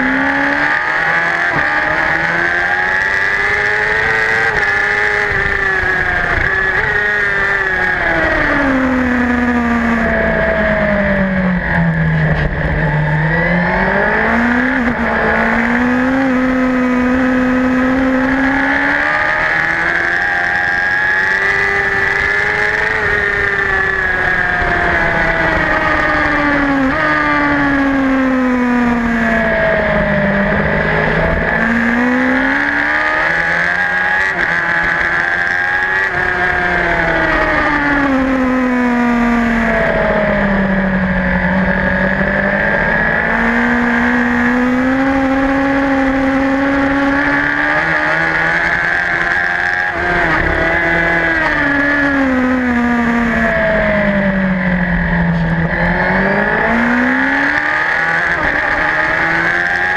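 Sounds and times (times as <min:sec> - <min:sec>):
motorbike engine at high revs: 0:00.0 - 0:59.9.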